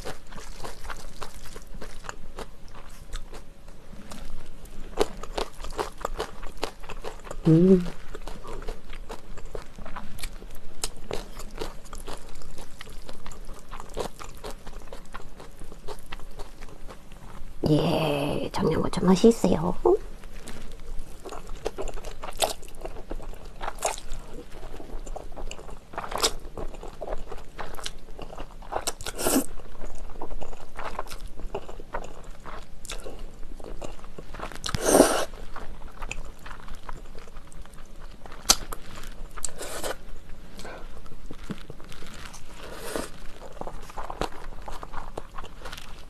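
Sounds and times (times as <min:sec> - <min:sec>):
wet chewing: 0:00.0 - 0:17.4, 0:20.4 - 0:46.0.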